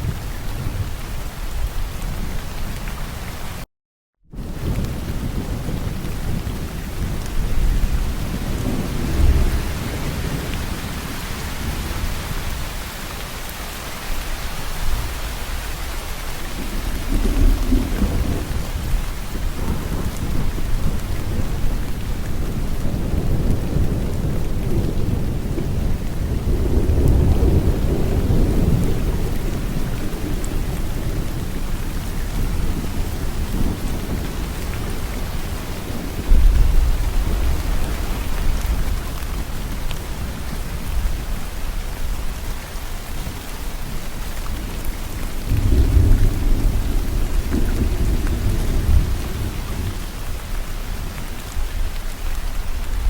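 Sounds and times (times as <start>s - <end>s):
steady rain falling: 0.0s - 3.7s, 4.3s - 53.0s
low rolling thunder: 4.3s - 13.0s, 14.7s - 42.4s, 43.2s - 53.0s.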